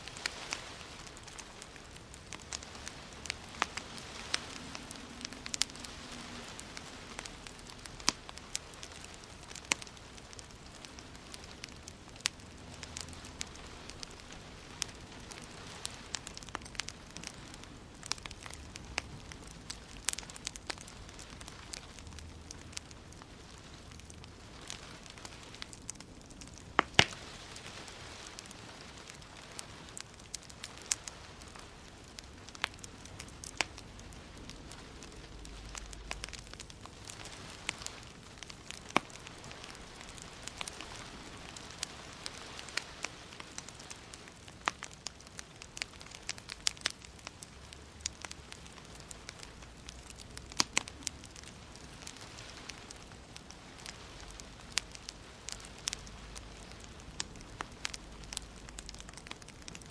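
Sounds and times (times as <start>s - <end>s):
fire crackling in a fireplace: 0.0s - 59.9s.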